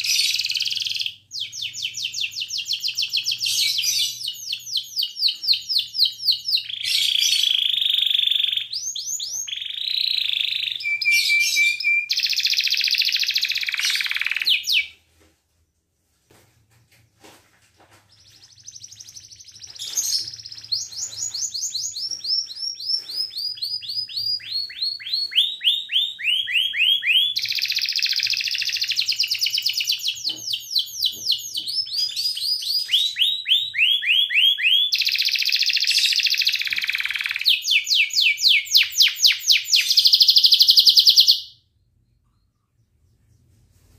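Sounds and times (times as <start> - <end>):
canary singing: 0.0 - 15.0, 18.1 - 43.5.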